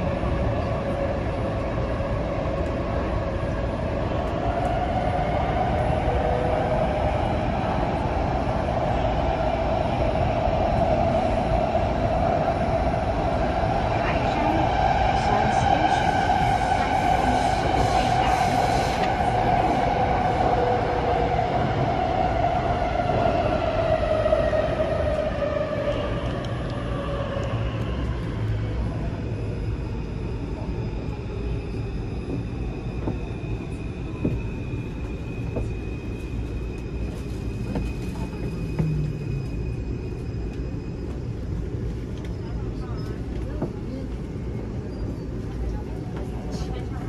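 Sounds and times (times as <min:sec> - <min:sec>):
low train running rumble: 0:00.0 - 0:47.0.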